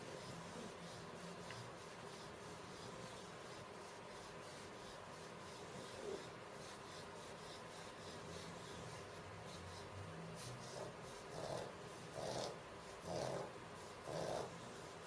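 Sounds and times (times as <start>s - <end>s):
faint scratching strokes: 0.0s - 15.0s.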